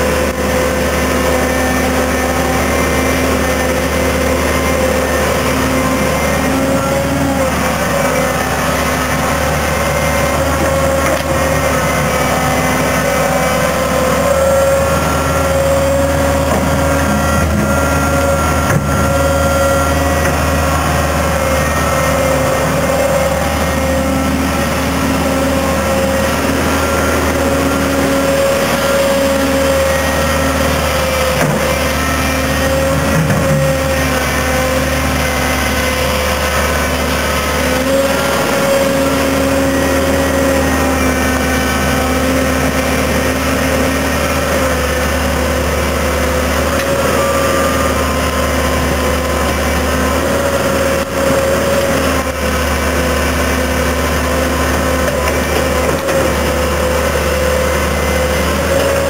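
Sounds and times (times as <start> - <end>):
excavator diesel engine running: 0.0 - 59.0
steady whine: 0.0 - 59.0.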